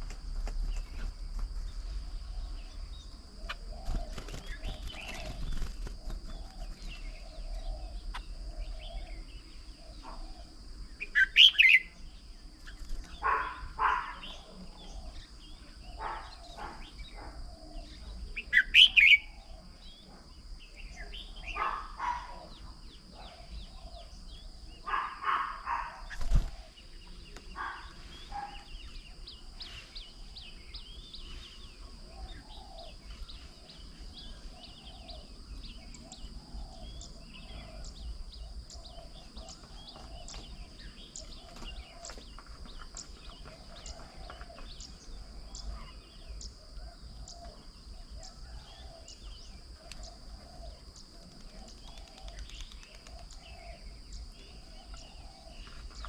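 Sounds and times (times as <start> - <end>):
birds chirping: 0.0 - 56.0
low repeated bird call: 0.0 - 56.0.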